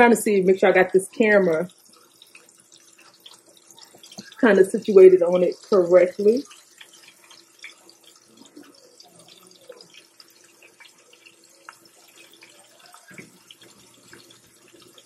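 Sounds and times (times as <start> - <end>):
meat sizzling in oil: 0.0 - 15.0
oil crackles and pops: 0.6 - 15.0.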